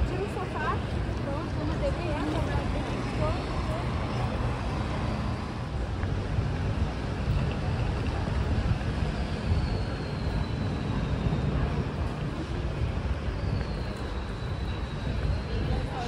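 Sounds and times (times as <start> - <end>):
hubbub of pedestrian street: 0.0 - 16.0
wind rumbling on microphone: 0.0 - 16.0.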